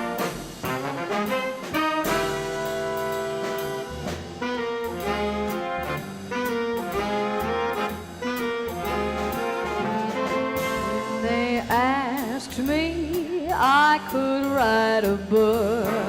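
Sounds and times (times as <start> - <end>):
drums: 0.0 - 16.0
swing band playing jazz: 0.0 - 16.0
upright bass: 0.0 - 16.0.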